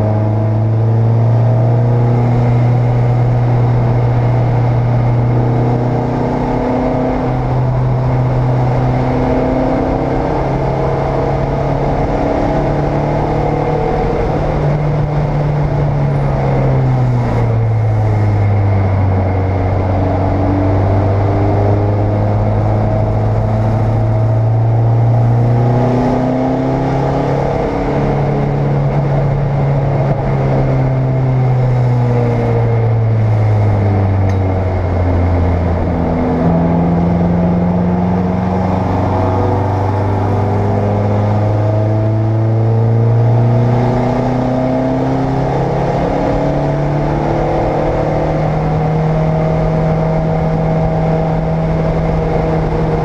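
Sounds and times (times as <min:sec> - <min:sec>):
race car engine: 0:00.0 - 0:53.0.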